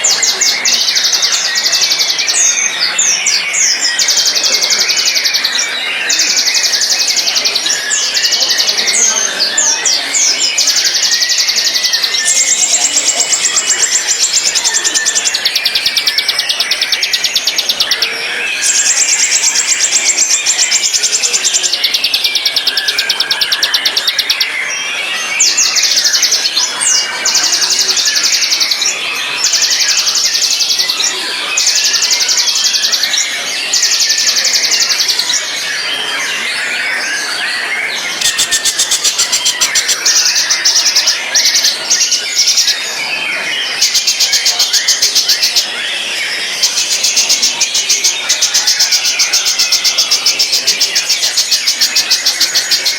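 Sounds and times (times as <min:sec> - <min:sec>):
bird singing buzzy trills: 0:00.0 - 0:52.9
soft bird twittering: 0:00.0 - 0:52.9.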